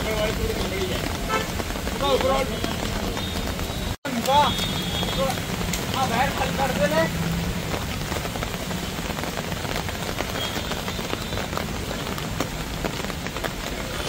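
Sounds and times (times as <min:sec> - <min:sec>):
heavy rain on a street: 0:00.0 - 0:14.0.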